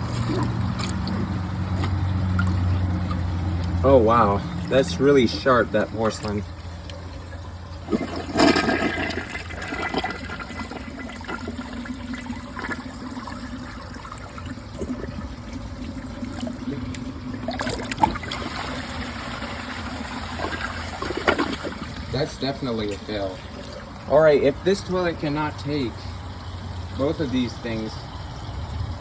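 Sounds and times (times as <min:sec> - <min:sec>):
toilet flushing: 0:00.0 - 0:29.0.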